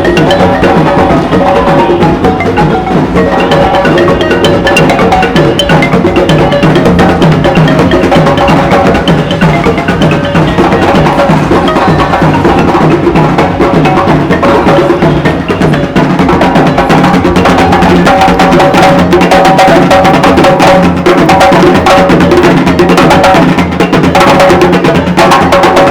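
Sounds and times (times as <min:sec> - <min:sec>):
percussion beat with clicks: 0:00.0 - 0:25.9
sustained instrumental tones: 0:00.0 - 0:25.9.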